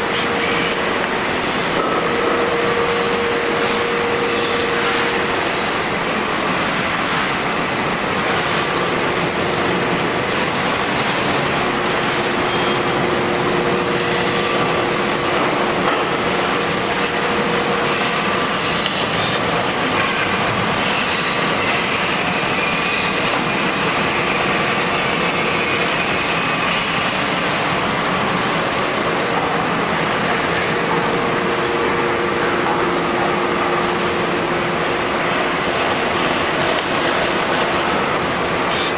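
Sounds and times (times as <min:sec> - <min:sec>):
faint machine whines: 0:00.0 - 0:38.9
machine whirring: 0:00.0 - 0:38.9.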